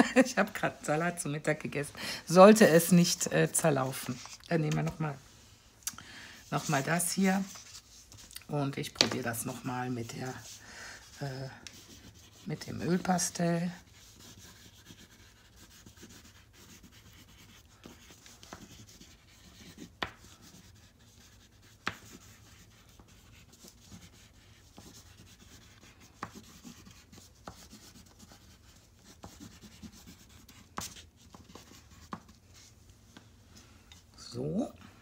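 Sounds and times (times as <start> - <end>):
oil pastel scratching on paper: 2.4 - 5.6, 6.4 - 33.3.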